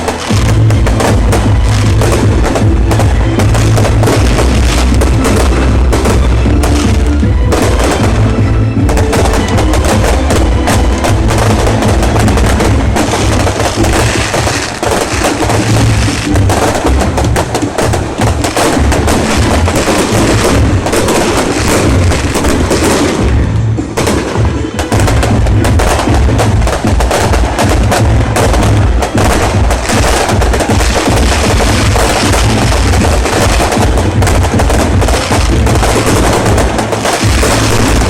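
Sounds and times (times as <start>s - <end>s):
fireworks crackling and banging: 0.0s - 38.0s
loud music with bass and drums: 0.0s - 38.0s.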